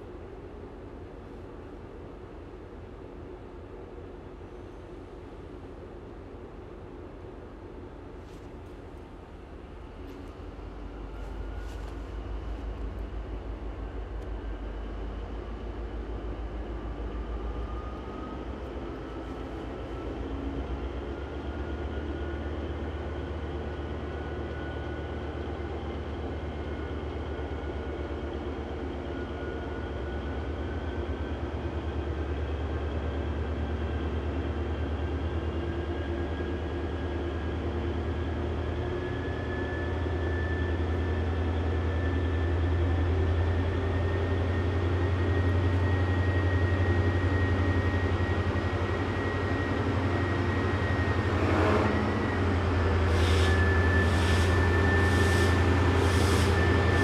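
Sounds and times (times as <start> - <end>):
locomotive engine hum: 0.0 - 57.0.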